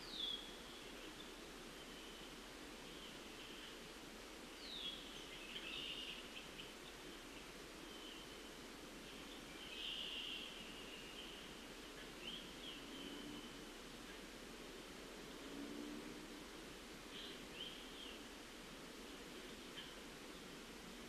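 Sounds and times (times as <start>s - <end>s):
low outdoor hiss: 0.0s - 21.0s
songbird song: 0.0s - 21.0s.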